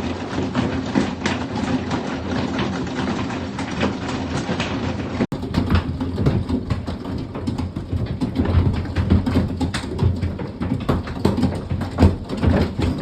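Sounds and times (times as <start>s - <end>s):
hailstones clattering on house: 0.0s - 13.0s.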